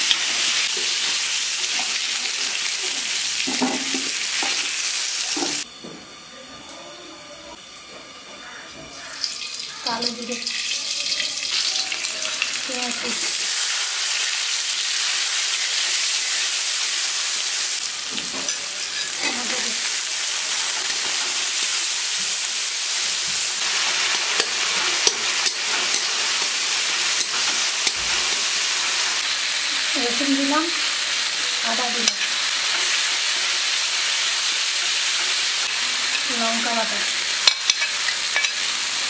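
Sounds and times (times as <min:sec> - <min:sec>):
food sizzling in hot oil: 0:00.0 - 0:05.7, 0:08.9 - 0:39.0.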